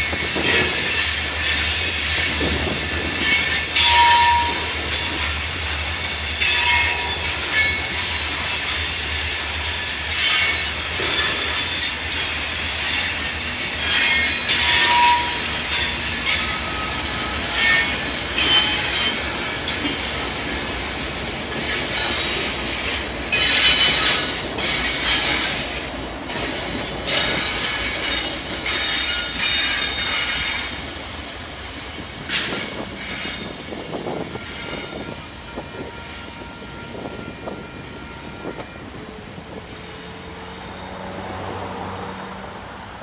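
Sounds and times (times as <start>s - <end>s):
train wheels squealing on rails: 0.0s - 42.1s.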